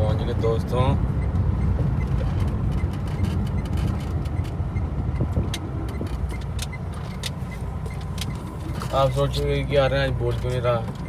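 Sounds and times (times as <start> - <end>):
engine and road rumble: 0.0 - 11.0
light clicks and rattles: 1.4 - 11.0.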